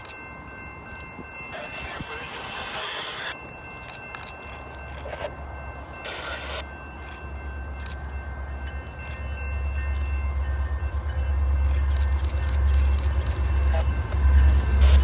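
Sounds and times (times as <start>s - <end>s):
freight train locomotives rumbling: 0.0s - 15.0s.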